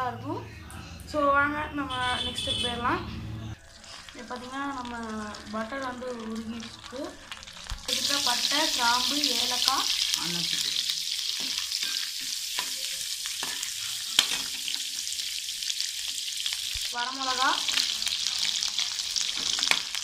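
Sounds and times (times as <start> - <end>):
spices sizzling in butter: 3.6 - 20.0.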